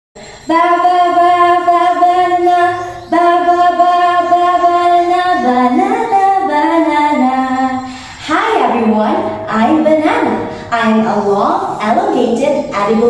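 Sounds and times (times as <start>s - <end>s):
woman singing: 0.2s - 13.0s.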